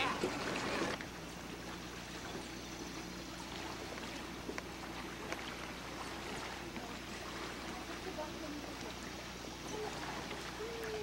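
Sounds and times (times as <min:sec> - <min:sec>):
lake water lapping: 0:00.0 - 0:11.0.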